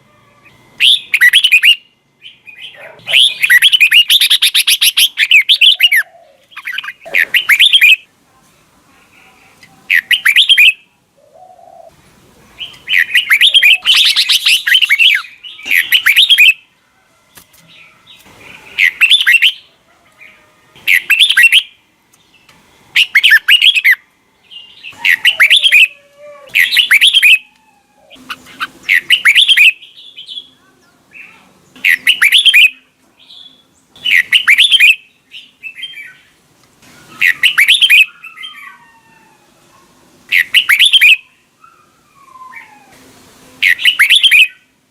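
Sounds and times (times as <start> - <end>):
bird singing warbled phrases: 0.4 - 8.1, 9.0 - 16.7, 17.4 - 36.4, 37.0 - 38.8, 40.3 - 43.0, 43.6 - 44.8.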